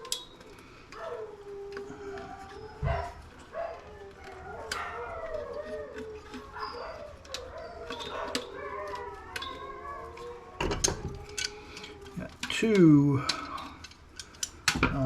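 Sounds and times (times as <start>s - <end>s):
dogs howling: 0.0s - 15.0s.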